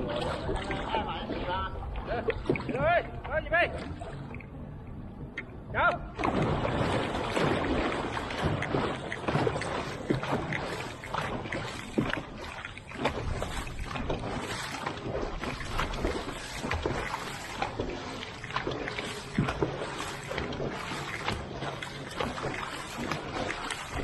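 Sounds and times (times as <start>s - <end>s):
paddles striking water: 0.0s - 4.6s, 5.2s - 24.0s
rushing water: 0.0s - 4.6s, 6.2s - 24.0s.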